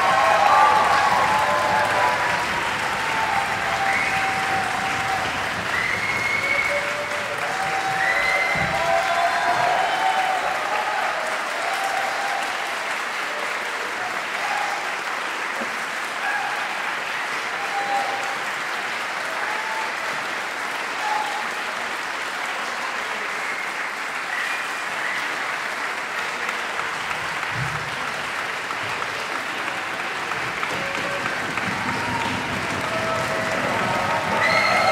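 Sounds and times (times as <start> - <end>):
audience applauding: 0.0 - 34.9.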